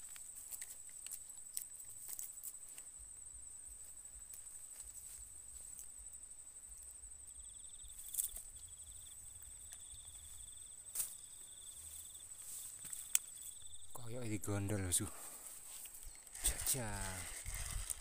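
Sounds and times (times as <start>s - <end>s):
high-pitched insect trill: 0.0s - 18.0s
lower insect trill: 0.0s - 18.0s.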